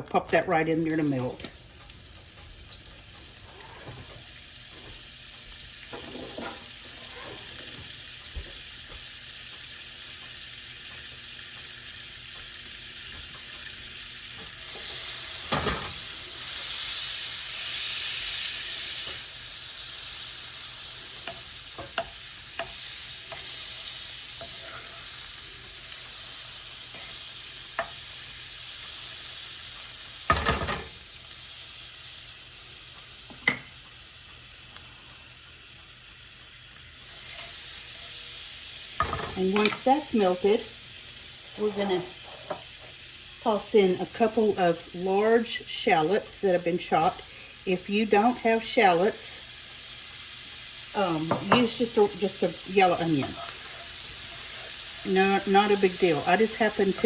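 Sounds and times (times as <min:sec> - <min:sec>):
butter sizzling in a skillet: 0:00.2 - 0:57.0.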